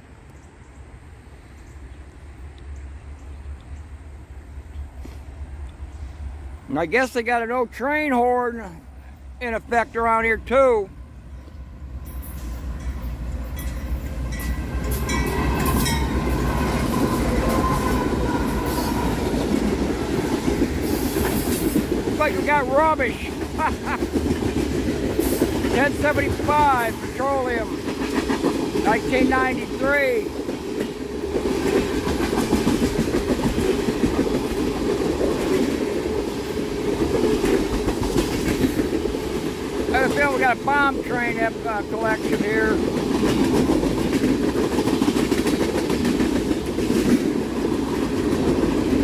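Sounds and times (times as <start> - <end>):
freight train rumbling on rails: 0.0 - 49.0.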